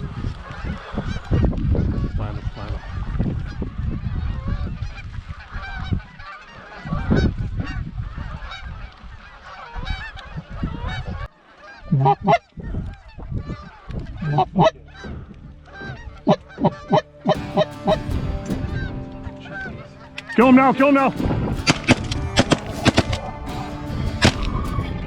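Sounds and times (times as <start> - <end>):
geese honking: 0.5 - 25.0.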